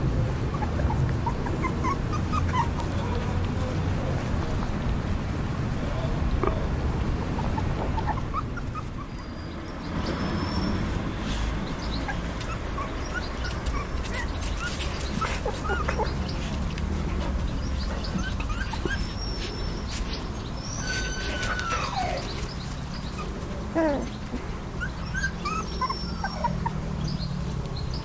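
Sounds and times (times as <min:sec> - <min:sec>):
puppies whimpering and yipping: 0:00.4 - 0:03.4, 0:07.1 - 0:11.0, 0:11.7 - 0:27.2.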